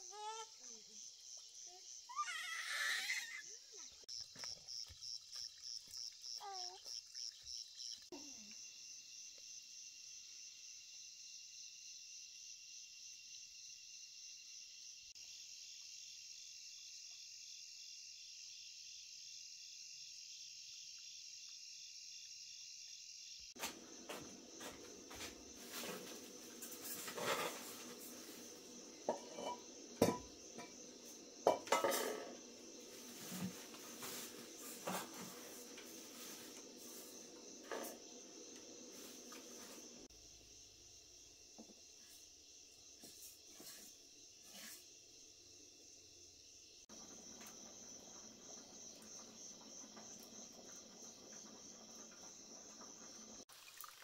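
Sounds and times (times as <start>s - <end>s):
insects chorus: 0.0s - 53.5s.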